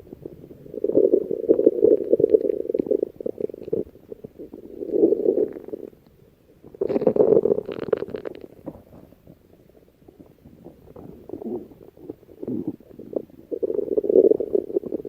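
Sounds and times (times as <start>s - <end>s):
stomach growling: 0.0s - 15.0s.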